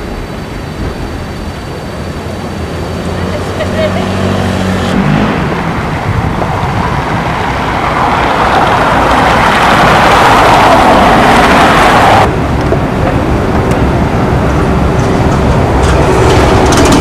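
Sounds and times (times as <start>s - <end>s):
motor vehicle running: 0.0s - 17.0s.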